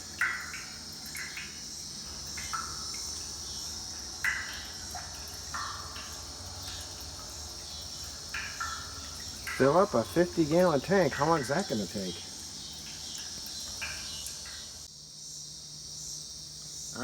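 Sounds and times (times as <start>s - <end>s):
chorus of insects: 0.0s - 17.0s
short loud insect chirps: 0.0s - 17.0s.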